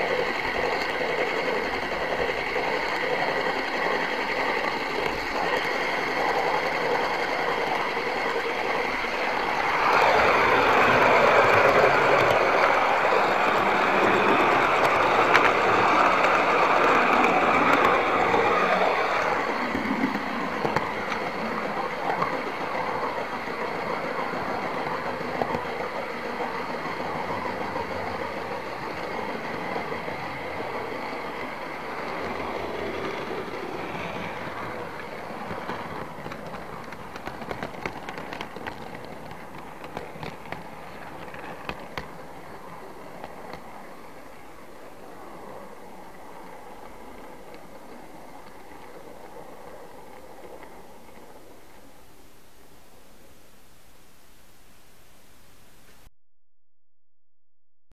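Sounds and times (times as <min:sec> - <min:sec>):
model train motor whirring: 0:00.0 - 0:51.8
wheels clicking over rail joints: 0:00.0 - 0:51.9.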